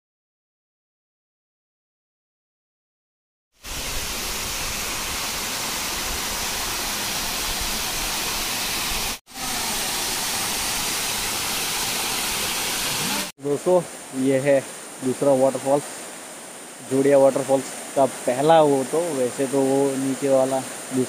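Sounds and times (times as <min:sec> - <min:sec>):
waterfall rushing: 0:03.6 - 0:21.0.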